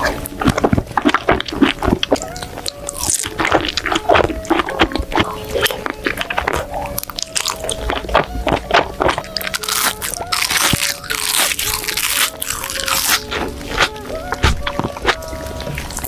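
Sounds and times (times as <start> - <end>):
background music: 0.0 - 16.0
crunchy food chewing: 0.0 - 16.0.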